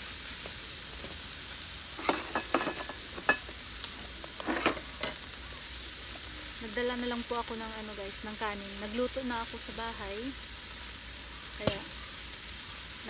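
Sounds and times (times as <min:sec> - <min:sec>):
meat sizzling in skillet: 0:00.0 - 0:13.0.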